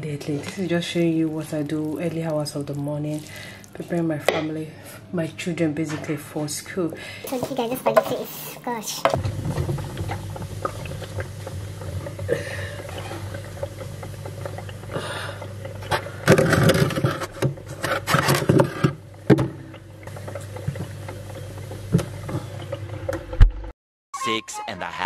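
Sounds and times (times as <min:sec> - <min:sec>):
low mechanical hum: 0:00.0 - 0:23.6.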